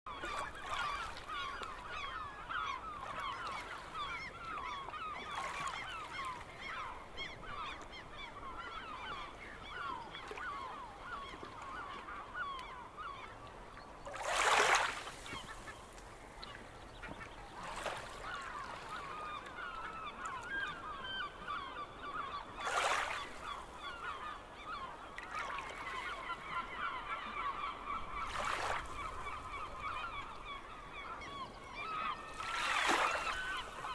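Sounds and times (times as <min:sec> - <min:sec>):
flock of birds chattering: 0:00.1 - 0:14.0, 0:14.8 - 0:33.9.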